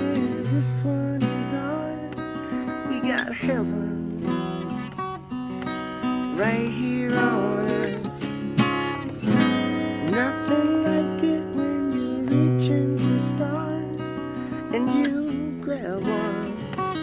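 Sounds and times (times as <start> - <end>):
acoustic guitar strummed and picked: 0.0 - 17.0.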